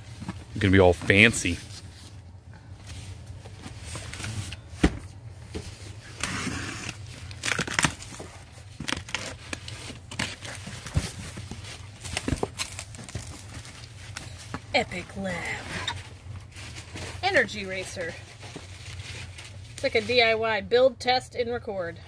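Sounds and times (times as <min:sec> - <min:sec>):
cardboard scraping and rustling: 0:00.0 - 0:02.2, 0:02.9 - 0:20.3.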